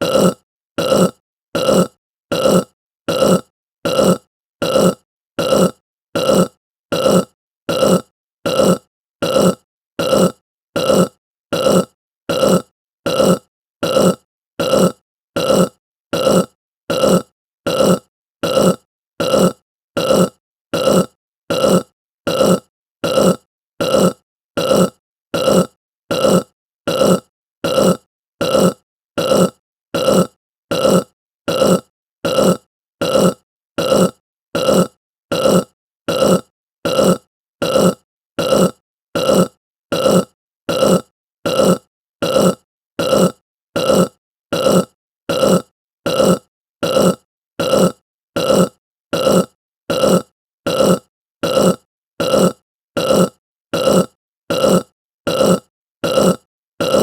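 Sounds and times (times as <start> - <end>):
person burping: 0.0 - 57.0.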